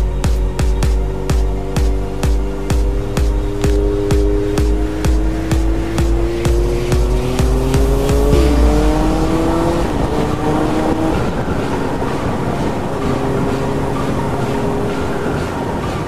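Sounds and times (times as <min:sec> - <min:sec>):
wind buffeting microphone: 0:00.1 - 0:16.0.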